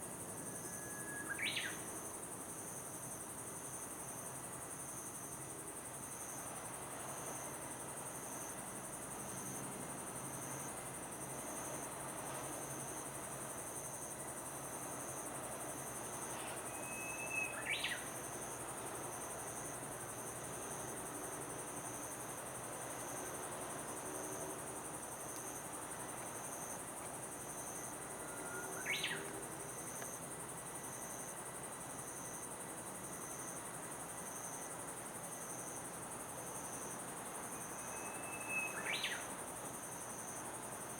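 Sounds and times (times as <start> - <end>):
crickets chirping in chorus: 0.0 - 40.9.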